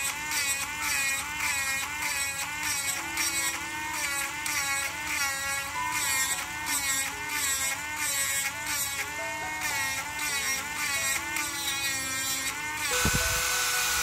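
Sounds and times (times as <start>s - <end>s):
rotary tool grinding wood: 0.0s - 14.0s.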